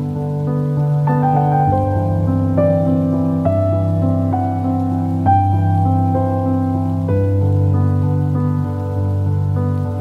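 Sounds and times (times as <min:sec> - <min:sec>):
gentle instrumental music: 0:00.0 - 0:10.0
steady rain: 0:00.0 - 0:10.0.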